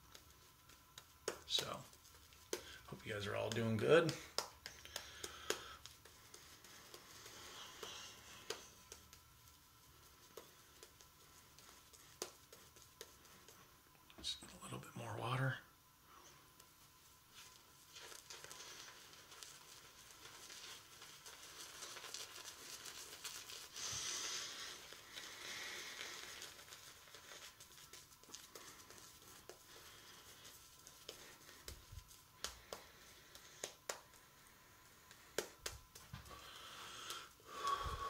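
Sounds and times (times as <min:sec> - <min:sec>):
shaving brush swishing lather: 0:00.0 - 0:13.7, 0:16.2 - 0:36.7.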